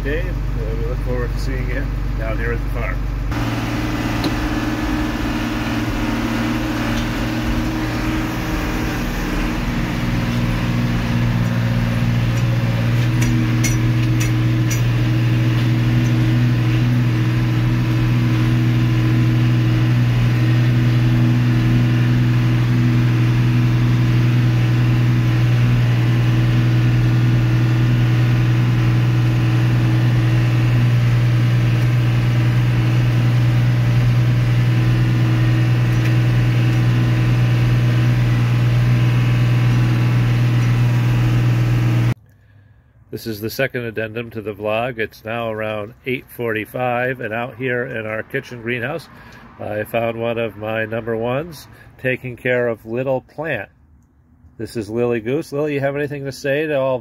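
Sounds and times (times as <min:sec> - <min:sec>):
tractor diesel engine under load: 0:00.0 - 0:42.4, 0:43.7 - 0:53.6.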